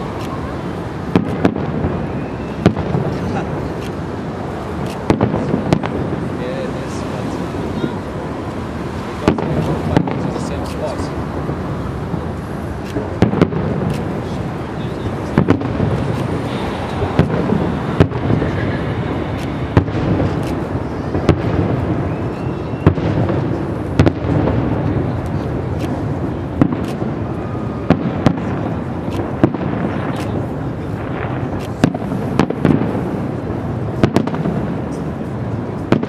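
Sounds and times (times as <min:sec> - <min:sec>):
firework bangs: 0:00.0 - 0:36.0
steady background noise: 0:00.0 - 0:36.0.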